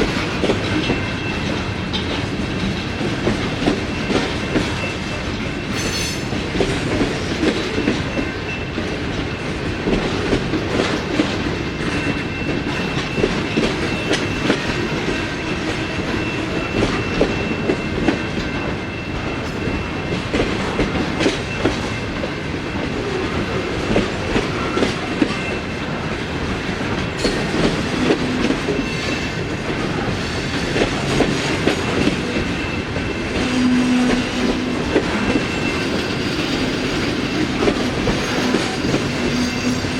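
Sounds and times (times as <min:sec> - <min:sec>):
freight train wheels clicking: 0:00.0 - 0:39.9
train rumble: 0:00.0 - 0:39.9.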